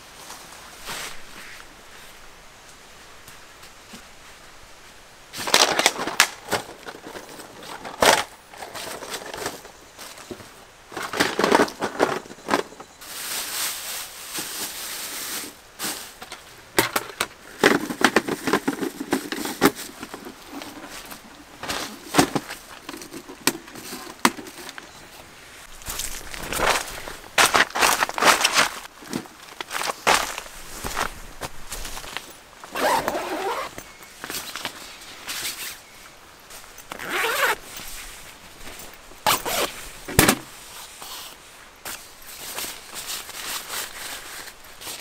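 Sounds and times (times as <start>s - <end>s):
plastic bag and fabric rustling: 5.3s - 35.9s, 36.5s - 45.0s.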